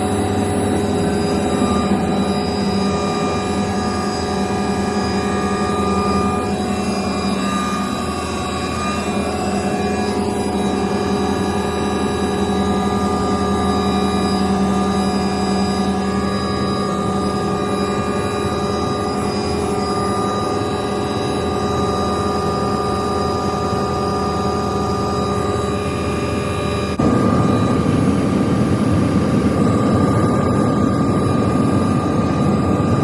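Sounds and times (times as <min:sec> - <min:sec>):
helicopter engine and rotor whine: 0:00.0 - 0:33.0.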